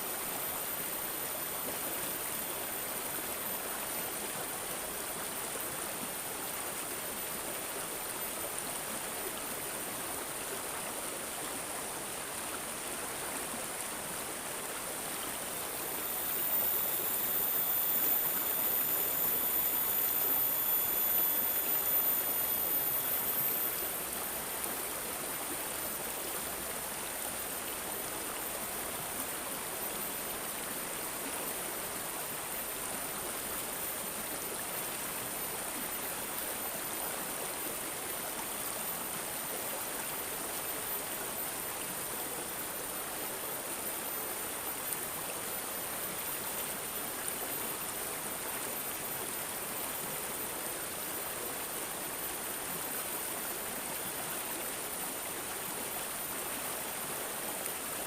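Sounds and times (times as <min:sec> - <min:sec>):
faint high steady tone: 0:00.0 - 0:58.0
stream babbling: 0:00.0 - 0:58.0.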